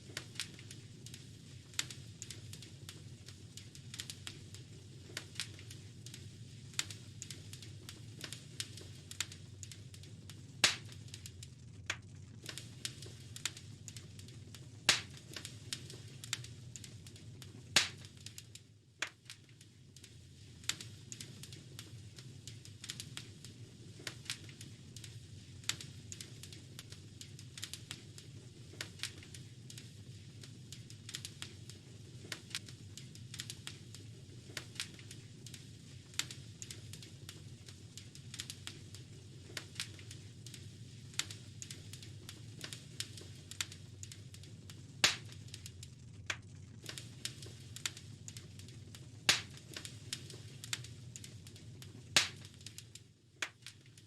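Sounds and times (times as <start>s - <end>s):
fire crackling: 0.0s - 54.0s
loud pops of fire: 0.0s - 54.0s.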